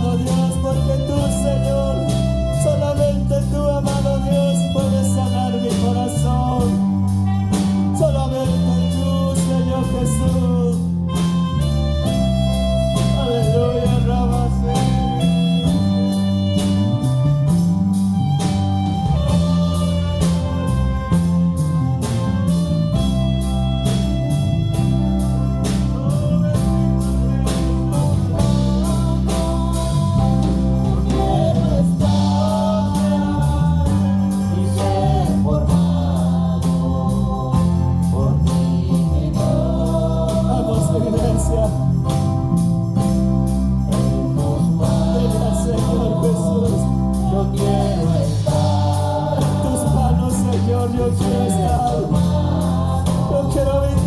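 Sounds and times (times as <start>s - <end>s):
band playing gospel music: 0.0s - 54.0s
people singing: 0.0s - 54.0s.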